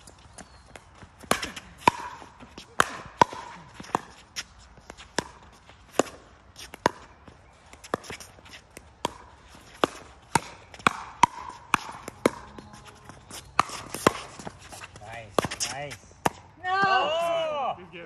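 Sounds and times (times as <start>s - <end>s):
ball bouncing on hard court: 0.4s - 17.0s.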